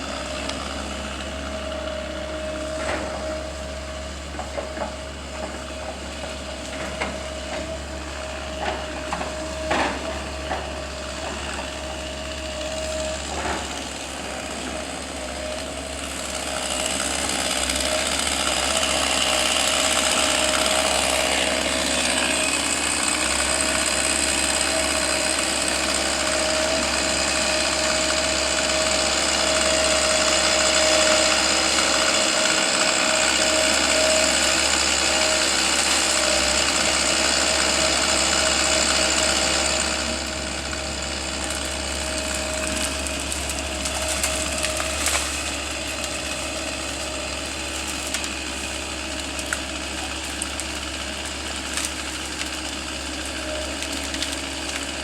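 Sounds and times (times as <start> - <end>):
power equipment engine whining: 0.0 - 55.0.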